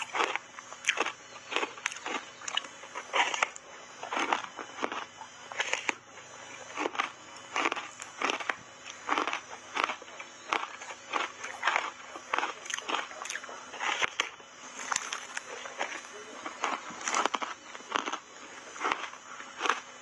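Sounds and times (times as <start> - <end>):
ice bar crunching between teeth: 0.0 - 6.0, 6.6 - 20.0.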